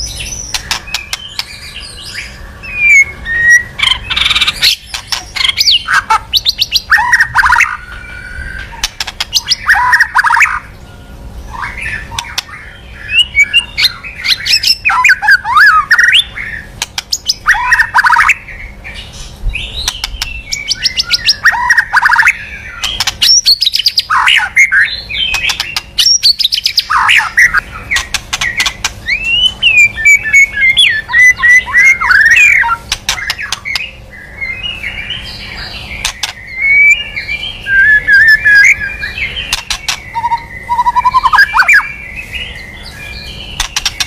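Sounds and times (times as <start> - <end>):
songbird singing trills and whistles: 0.0 - 44.0.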